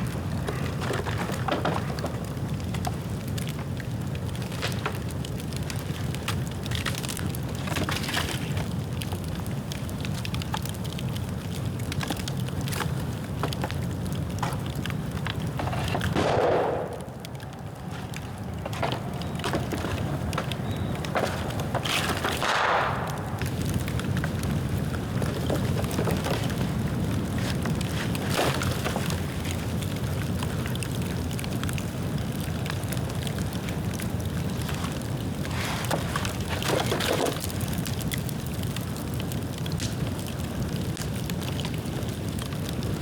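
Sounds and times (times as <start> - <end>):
bamboo bonfire crackling: 0.0 - 43.0
fire rushing surges: 0.0 - 43.0.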